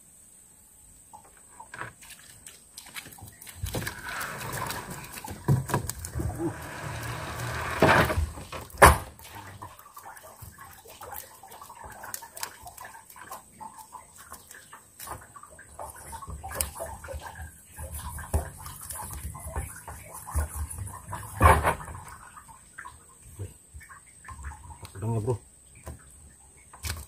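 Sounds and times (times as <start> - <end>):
water splashing: 1.5 - 27.0.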